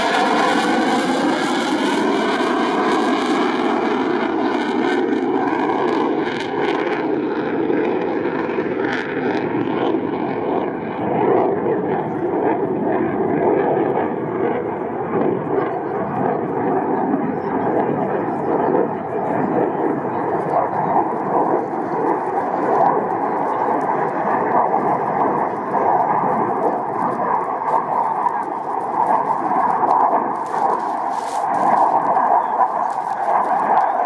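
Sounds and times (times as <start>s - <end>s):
jet fighter flying past: 0.0s - 34.0s.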